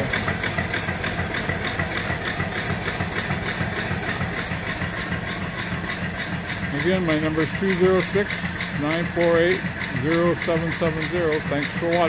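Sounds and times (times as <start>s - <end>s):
steam engine exhaust chuffing: 0.0s - 12.0s.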